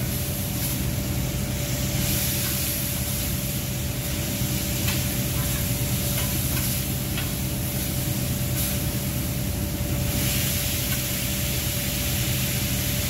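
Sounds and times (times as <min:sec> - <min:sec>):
low machine hum: 0:00.0 - 0:13.0
steak sizzling on a griddle: 0:00.0 - 0:13.0.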